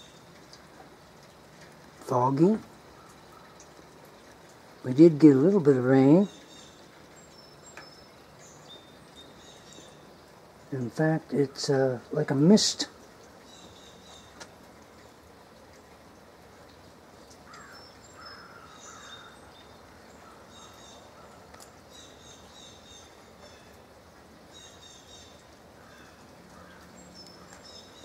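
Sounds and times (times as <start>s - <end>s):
light rain hiss: 0.0s - 28.0s
birds chirping: 1.2s - 28.0s.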